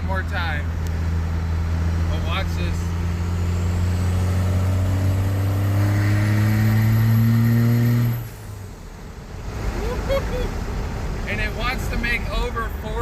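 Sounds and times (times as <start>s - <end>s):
diesel truck engine drone: 0.0s - 13.0s.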